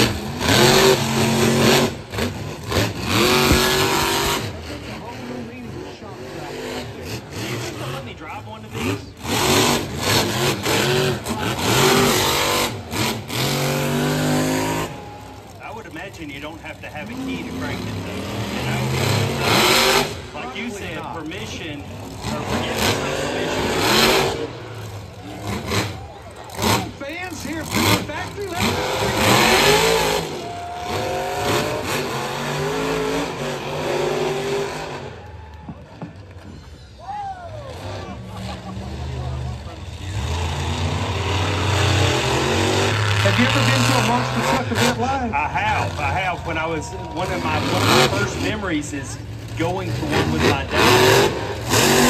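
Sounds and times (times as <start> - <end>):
truck engines revving: 0.0 - 52.0.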